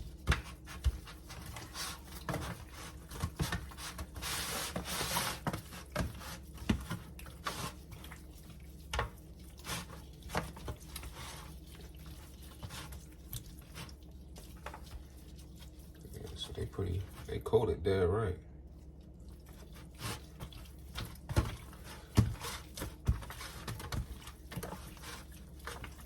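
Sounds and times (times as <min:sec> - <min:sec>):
gloved hands rubbing and squishing: 0:00.0 - 0:17.4, 0:18.6 - 0:26.0.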